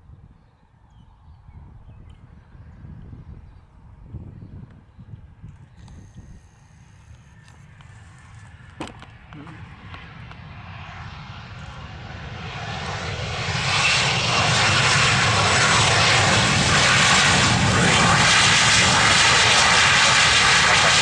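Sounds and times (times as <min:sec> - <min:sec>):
airplane engines: 0:00.0 - 0:21.0.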